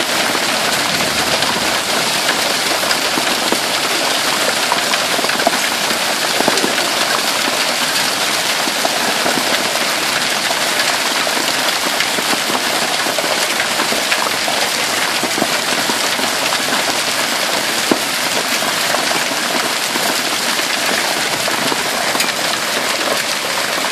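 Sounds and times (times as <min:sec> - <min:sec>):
hail pelting hard surfaces: 0:00.0 - 0:23.9.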